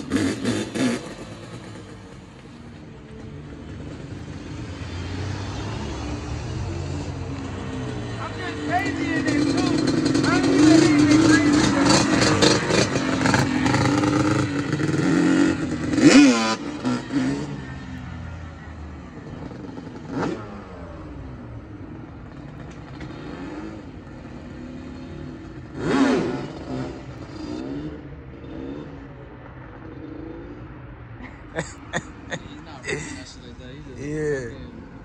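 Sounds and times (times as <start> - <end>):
quad bike engine revving: 0.0 - 2.7, 3.7 - 17.9, 19.2 - 29.0, 31.6 - 35.0.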